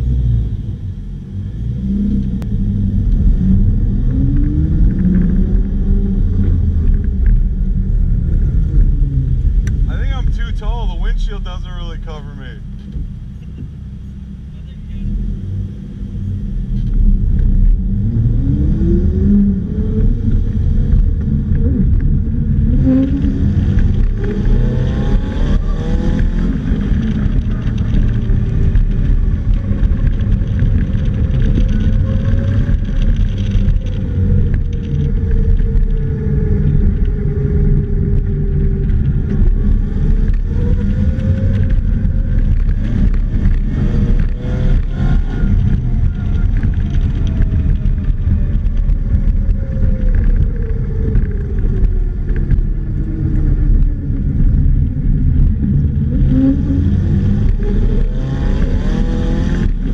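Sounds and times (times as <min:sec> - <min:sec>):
car engine accelerating: 0:00.0 - 0:59.9
heavy wind: 0:00.0 - 0:59.9
road rumble: 0:00.0 - 0:59.9.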